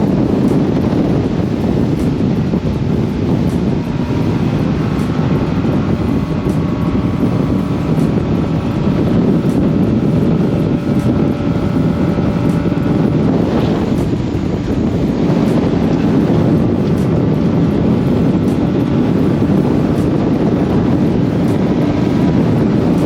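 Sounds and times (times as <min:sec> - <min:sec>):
faint whine: 0:00.0 - 0:23.0
motorboat engine drone: 0:00.0 - 0:23.0
wind buffeting microphone: 0:00.0 - 0:23.0.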